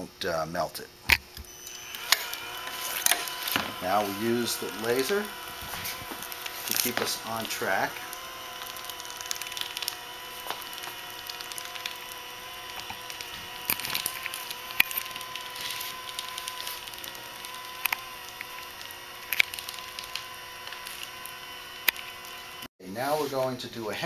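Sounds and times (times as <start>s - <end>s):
sharp crackles and clicks: 1.1s - 22.7s
welding machine motor whine: 1.3s - 22.7s.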